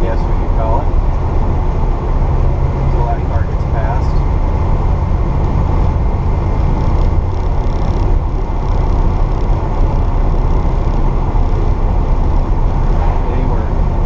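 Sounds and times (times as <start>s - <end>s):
car engine running while driving: 0.0s - 14.0s
road noise: 0.0s - 14.0s.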